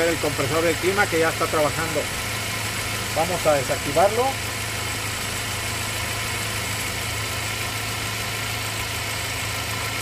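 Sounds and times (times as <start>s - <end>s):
pickup engine idling: 0.0s - 10.0s.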